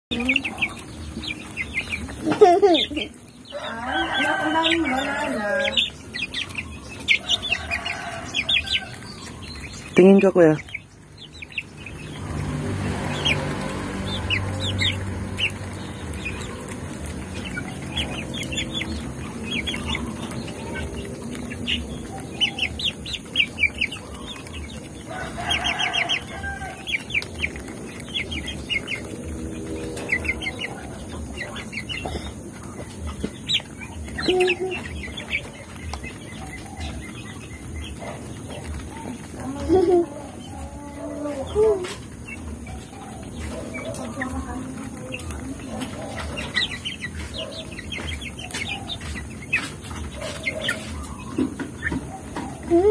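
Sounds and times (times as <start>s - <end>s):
hens clucking: 0.1s - 52.9s.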